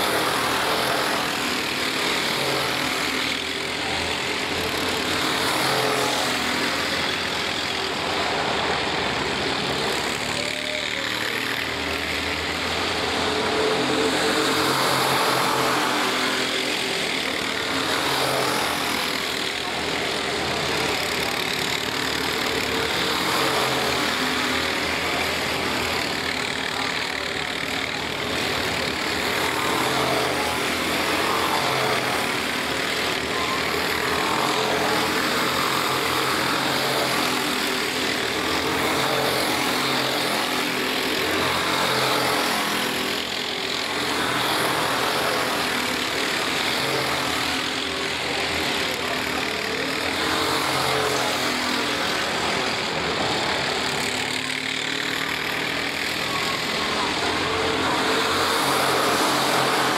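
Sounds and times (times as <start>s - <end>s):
racing kart engines: 0.0s - 59.9s.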